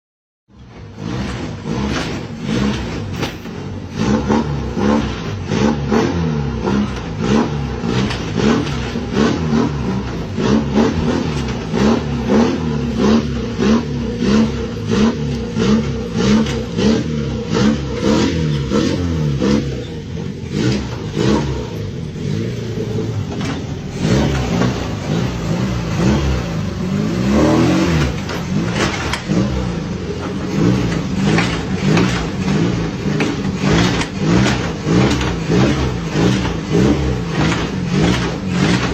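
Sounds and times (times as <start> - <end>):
car engine revving: 0.5 - 38.9.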